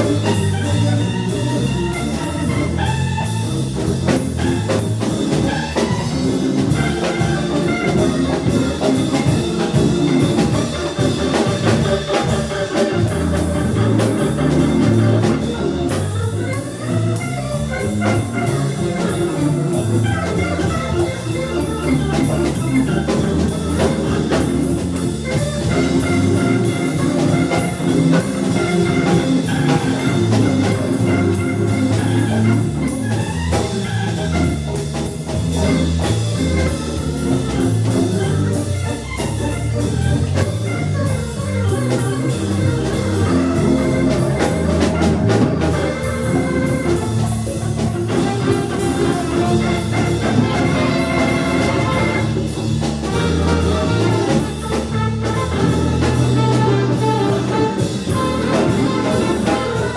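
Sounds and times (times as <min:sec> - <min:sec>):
band playing instrumental: 0:00.0 - 0:59.9
drum kit cymbal beat: 0:00.0 - 0:59.9
guitar: 0:00.0 - 0:59.9.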